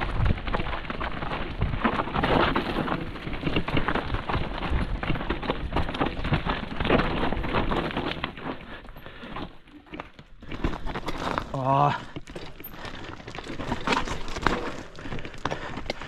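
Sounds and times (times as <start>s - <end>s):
bike knocking and rattling: 0.0s - 16.0s
bike tyres crunching on dirt: 0.0s - 16.0s.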